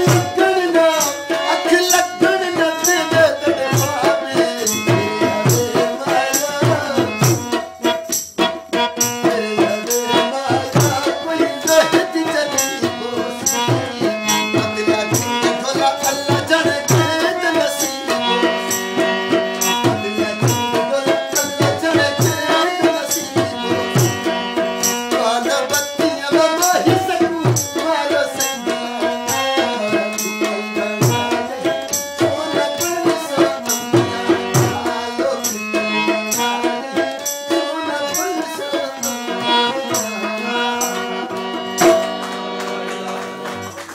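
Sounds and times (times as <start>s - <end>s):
man singing: 0.0s - 42.2s
percussion beat: 0.0s - 43.9s.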